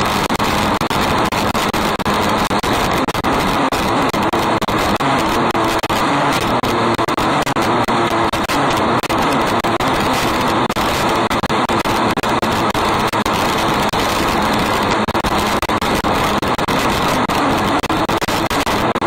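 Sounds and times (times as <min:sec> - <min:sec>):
race car engine running hard: 0:00.0 - 0:19.0.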